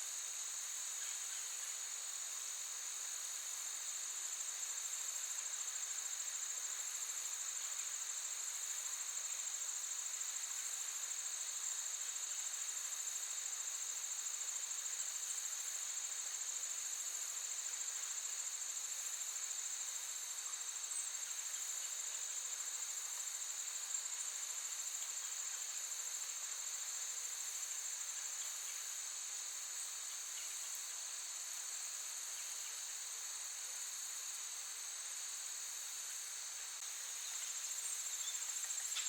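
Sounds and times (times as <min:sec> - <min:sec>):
crickets trilling: 0:00.1 - 0:39.0.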